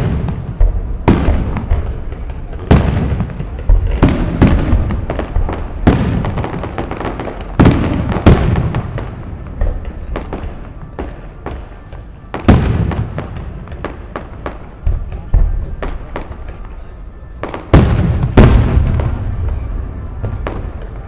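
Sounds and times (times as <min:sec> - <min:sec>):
firework crackle and rumble: 0:00.0 - 0:21.0
firework shells bursting with bangs: 0:00.0 - 0:21.0.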